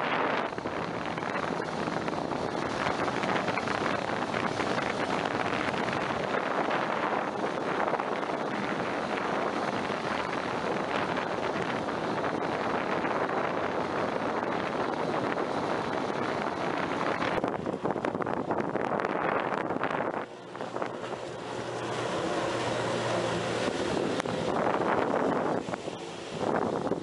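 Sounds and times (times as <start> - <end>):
boat engine running under load: 0.0 - 27.0
rush of water from waterjet: 0.0 - 27.0
wind buffeting microphone: 0.0 - 27.0.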